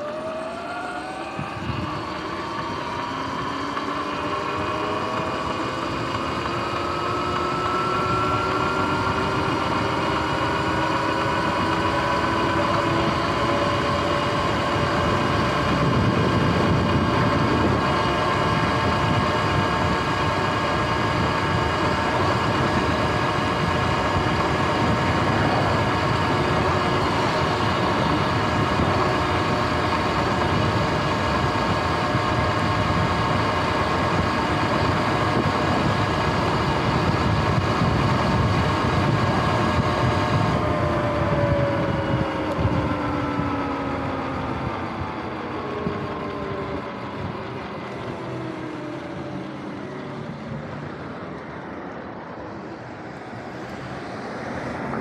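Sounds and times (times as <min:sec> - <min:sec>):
electric motor whining: 0:00.0 - 0:50.2
wind on microphone: 0:01.1 - 0:06.8, 0:08.0 - 0:46.5.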